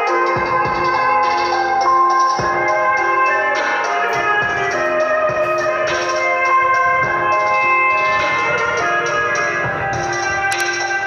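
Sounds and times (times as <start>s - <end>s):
music through loudspeaker: 0.0s - 11.0s.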